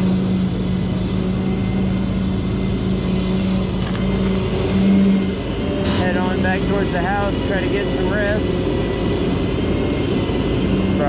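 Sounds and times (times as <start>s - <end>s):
truck engine and hydraulics humming: 0.0s - 11.0s.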